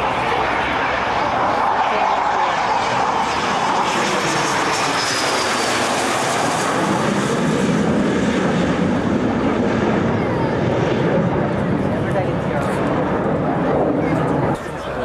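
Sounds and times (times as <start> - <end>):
jet aircraft passing overhead: 0.0 - 15.0.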